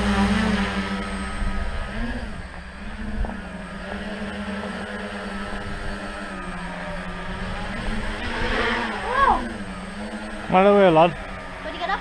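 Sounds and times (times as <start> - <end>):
drone motors humming: 0.0 - 12.0.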